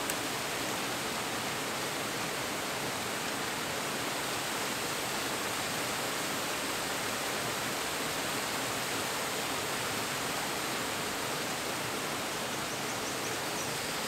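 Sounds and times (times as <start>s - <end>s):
small waterfall splashing: 0.0s - 14.0s.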